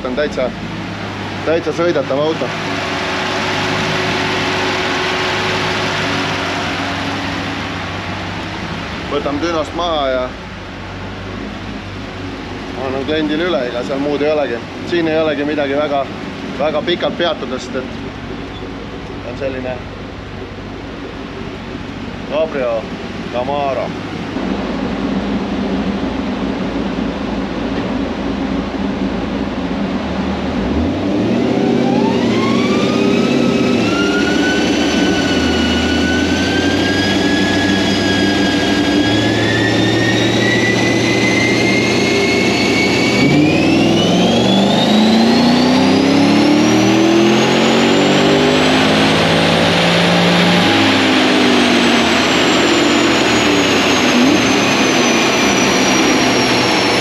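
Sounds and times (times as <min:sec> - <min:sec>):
car engine revving on dynamometer: 0:00.0 - 0:57.0
rising whine of rollers: 0:00.0 - 0:57.0.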